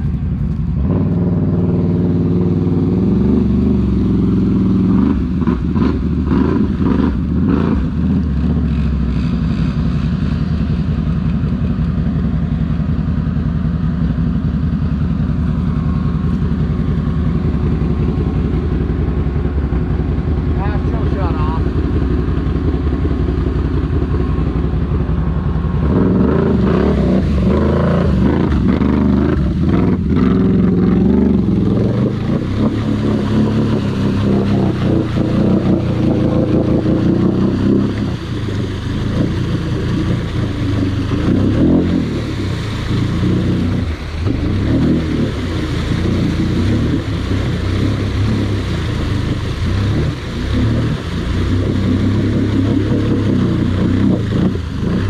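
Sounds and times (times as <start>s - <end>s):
churning through mud and water: 0.0s - 55.0s
atv engine revving: 0.8s - 55.0s.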